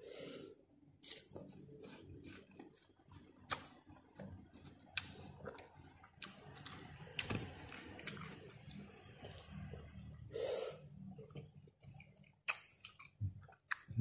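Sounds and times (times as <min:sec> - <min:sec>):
person chewing wetly: 0:00.8 - 0:10.3, 0:11.0 - 0:14.0.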